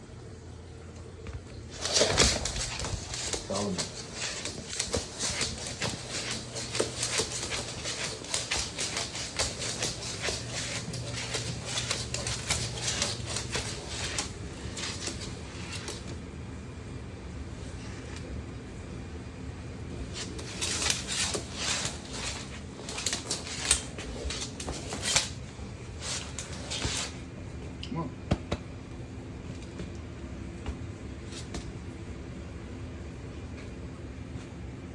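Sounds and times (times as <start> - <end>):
low background hum: 0.0 - 34.9.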